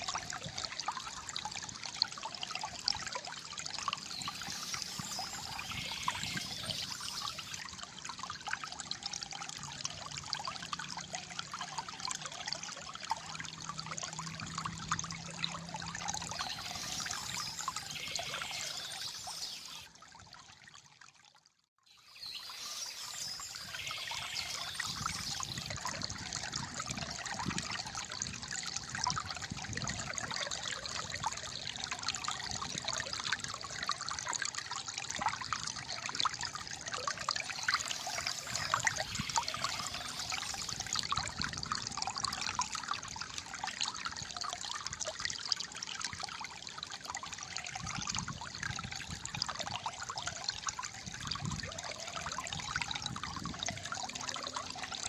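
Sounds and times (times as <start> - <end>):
shallow water trickling and gurgling: 0.0 - 55.0.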